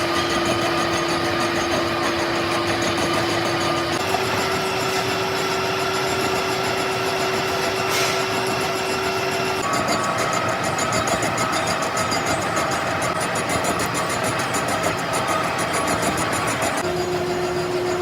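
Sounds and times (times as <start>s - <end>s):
metalworking machine humming: 0.0s - 18.0s.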